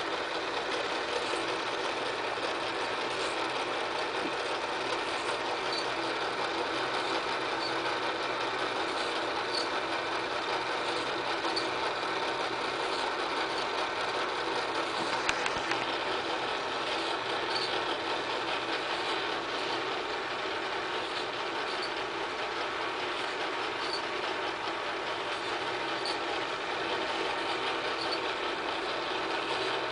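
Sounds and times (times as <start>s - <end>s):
film clattering through projector: 0.0s - 29.9s
projector motor whir: 0.0s - 29.9s.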